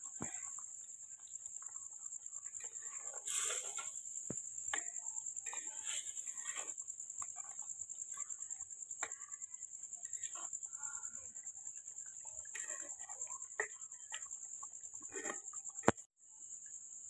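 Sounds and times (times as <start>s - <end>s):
spoon stirring in clay pot: 0.0s - 16.1s
crickets trilling: 0.0s - 17.0s.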